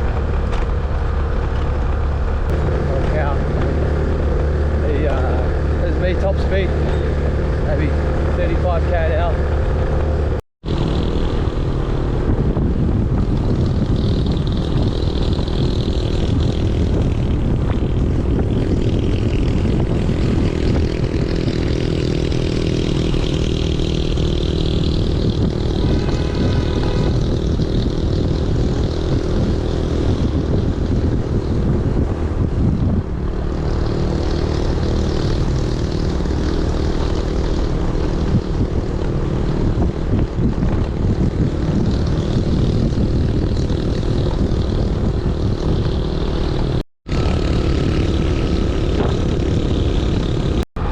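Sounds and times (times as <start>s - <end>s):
wind rushing over microphone: 0.0s - 50.9s
small motorbike engine running: 2.5s - 32.4s, 33.2s - 50.6s.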